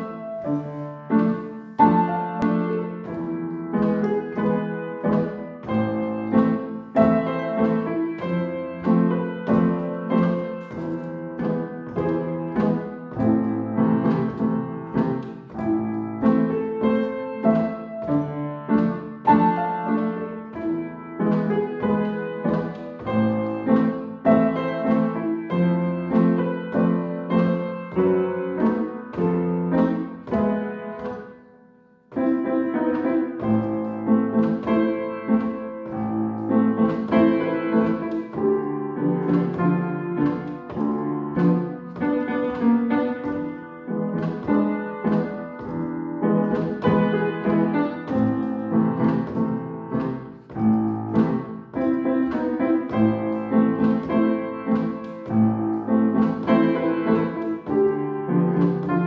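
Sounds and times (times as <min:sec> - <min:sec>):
solo piano piece: 0:00.0 - 0:59.0.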